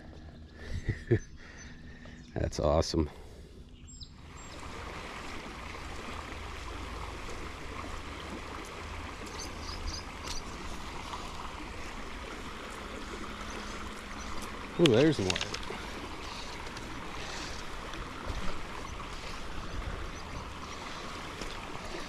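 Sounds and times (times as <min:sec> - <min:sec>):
creek water rushing: 0:04.2 - 0:22.0.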